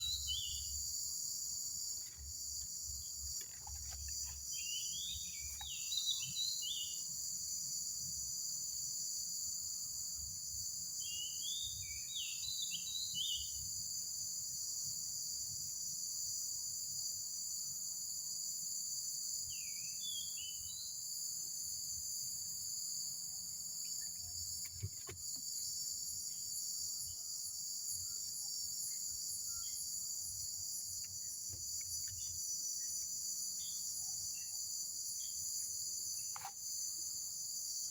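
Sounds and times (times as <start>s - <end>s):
insect chorus: 0.0s - 37.9s.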